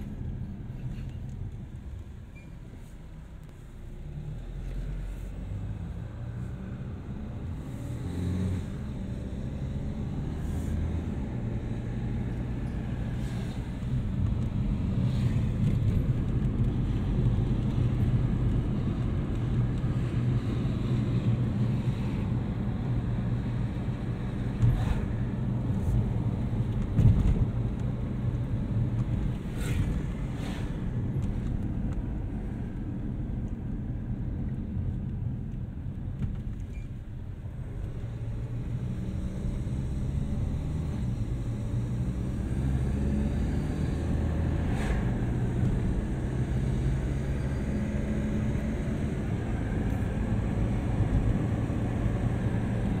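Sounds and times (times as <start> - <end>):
car road noise rumble: 0.0 - 53.0.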